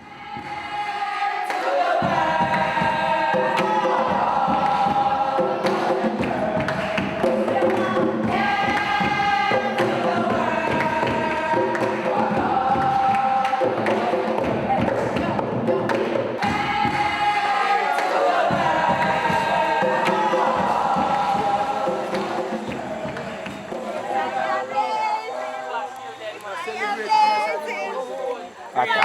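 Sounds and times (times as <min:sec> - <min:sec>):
choir singing held notes: 0:00.0 - 0:29.0.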